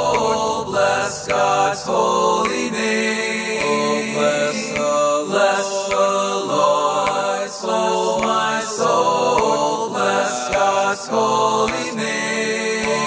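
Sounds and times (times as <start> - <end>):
male voices singing a hymn: 0.0 - 13.0.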